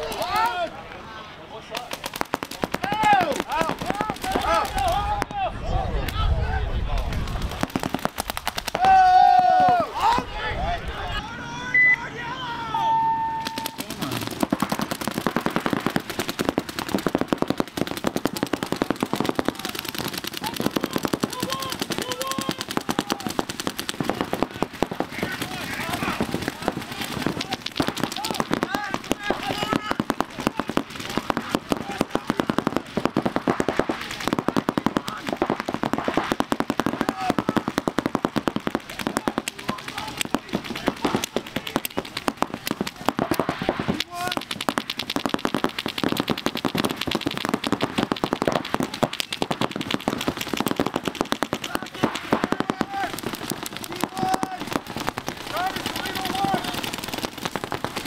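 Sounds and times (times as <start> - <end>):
paintball markers firing rapidly: 0.0 - 0.7, 1.7 - 5.3, 7.0 - 9.0, 13.4 - 58.0.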